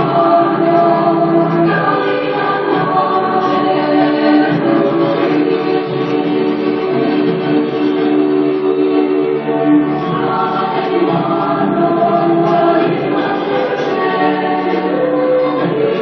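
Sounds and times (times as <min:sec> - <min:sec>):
choir singing long notes: 0:00.0 - 0:16.0.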